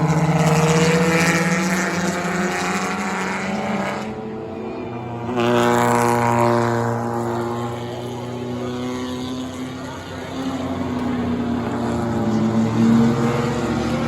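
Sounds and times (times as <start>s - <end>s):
loud low engine: 0.0s - 14.0s
race car engines: 0.0s - 14.0s.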